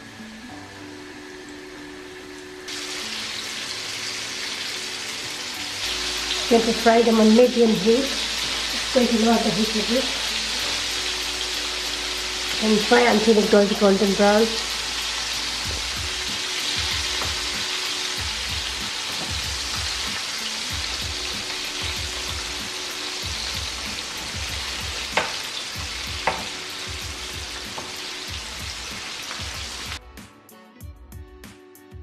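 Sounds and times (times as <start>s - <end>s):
chicken deep-frying in hot oil: 1.0s - 30.0s.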